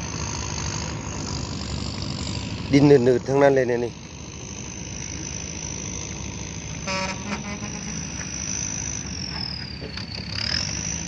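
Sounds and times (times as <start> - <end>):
diesel machinery rumbling: 0.0 - 11.0
high-pitched whine: 0.0 - 11.0.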